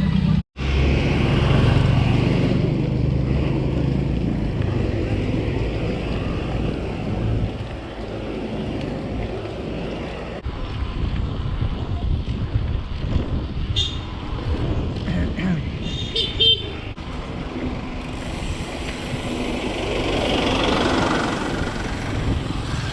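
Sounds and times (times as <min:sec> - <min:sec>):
bicycle riding rumble: 0:00.0 - 0:22.9
wind buffeting microphone: 0:00.6 - 0:22.9.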